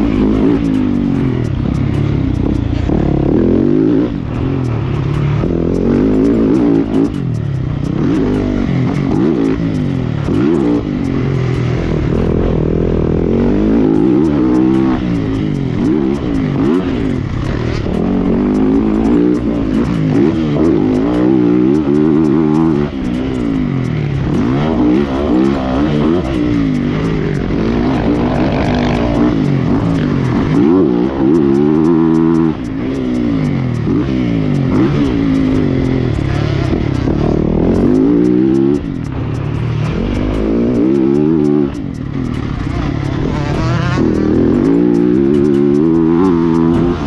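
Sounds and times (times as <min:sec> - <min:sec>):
motocross bike engine revving: 0:00.0 - 0:47.0.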